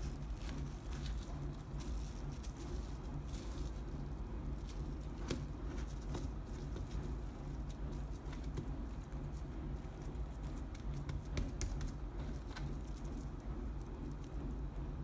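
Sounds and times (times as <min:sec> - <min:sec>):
cling film crinkling: 0:00.0 - 0:14.7
steady low hum: 0:00.0 - 0:15.0.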